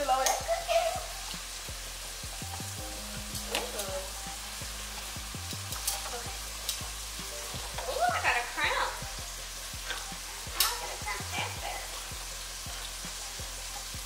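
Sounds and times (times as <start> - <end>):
steaks sizzling in a pan: 0.0 - 14.0.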